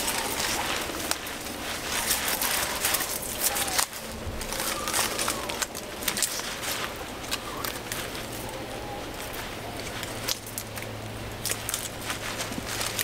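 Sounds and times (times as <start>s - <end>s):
leaves and twigs rustling: 0.0s - 13.0s.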